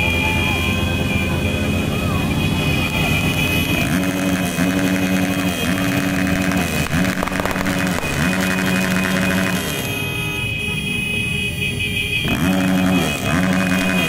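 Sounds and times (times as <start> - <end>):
horn blasts: 0.0 - 14.0
motorcycle engines running: 0.0 - 14.0.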